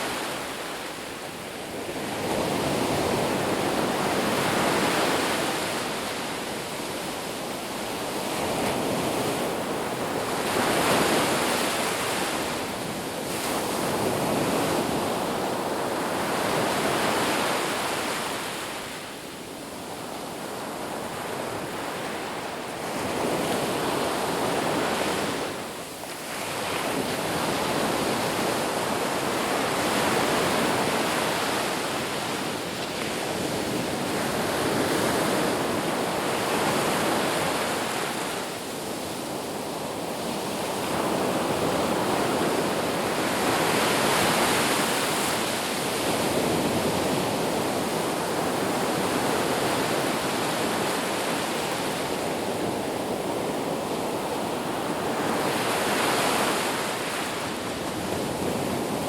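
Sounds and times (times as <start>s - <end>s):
sea waves washing onto shore: 0.0s - 59.0s.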